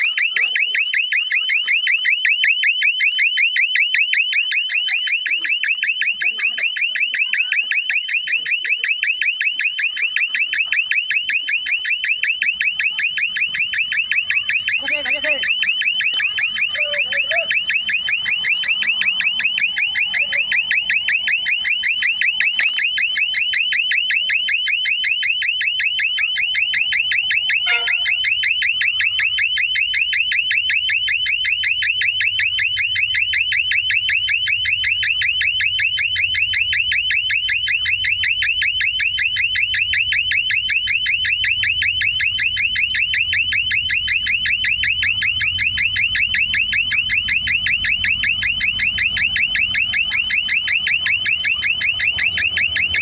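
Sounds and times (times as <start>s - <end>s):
high-pitched pulsing alarm tone: 0.0s - 53.0s.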